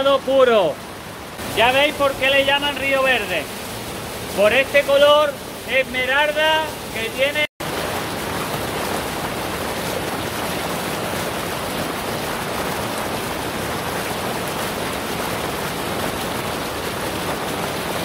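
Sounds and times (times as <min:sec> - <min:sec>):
river water rushing over rocks: 0:00.8 - 0:18.0.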